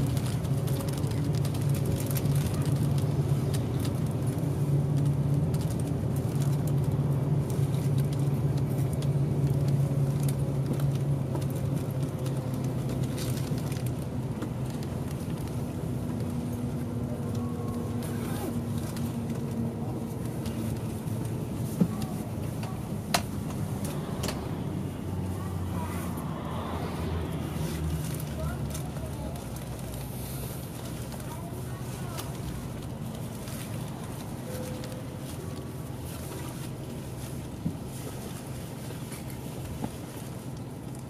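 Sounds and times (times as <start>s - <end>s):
bus engine and road hum: 0.0s - 41.0s.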